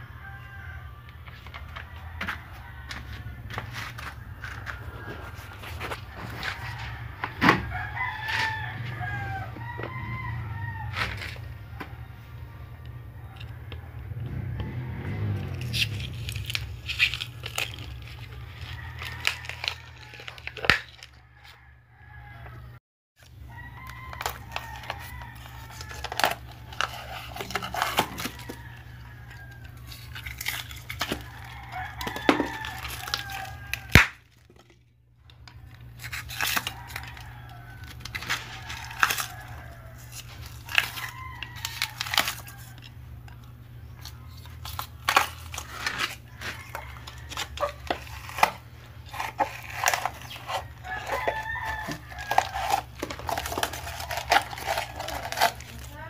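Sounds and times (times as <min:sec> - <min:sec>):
chickens calling: 0:00.0 - 0:34.2, 0:35.3 - 0:56.0
rooster crowing: 0:00.0 - 0:34.3, 0:35.3 - 0:56.0.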